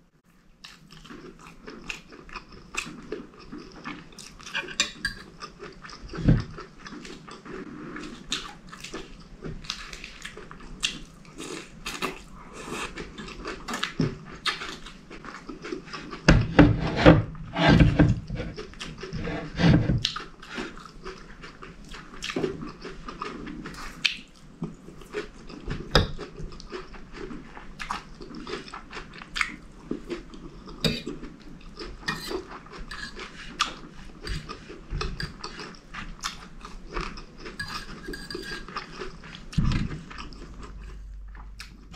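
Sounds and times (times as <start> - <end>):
chewing and biting food: 0.6 - 16.6, 18.3 - 41.9.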